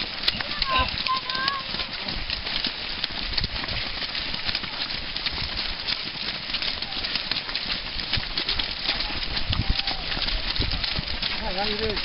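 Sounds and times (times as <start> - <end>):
footsteps of runners on ground: 0.0 - 12.0
legs brushing through grass: 0.0 - 12.0.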